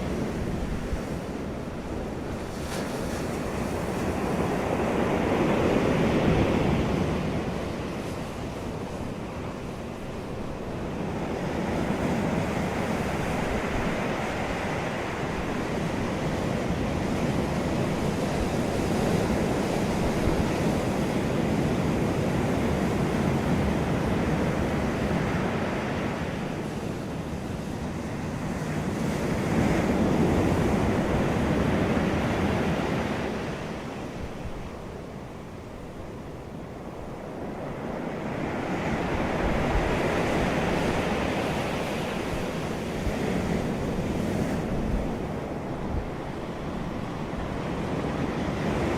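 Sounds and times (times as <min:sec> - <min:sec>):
wind and surf rushing: 0:00.0 - 0:48.9.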